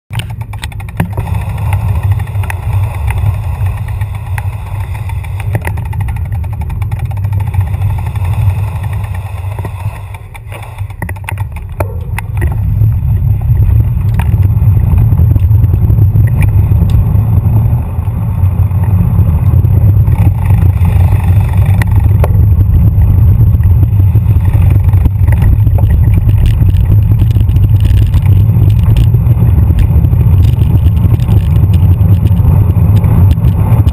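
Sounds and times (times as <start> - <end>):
wind buffeting microphone: 0.1 - 33.9.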